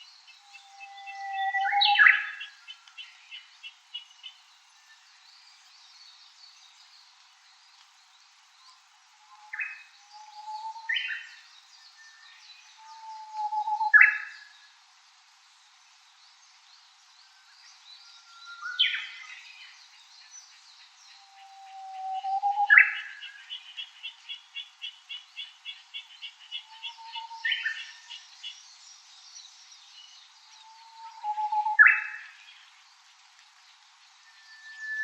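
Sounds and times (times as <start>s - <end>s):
bush warbler song: 0.0s - 35.0s.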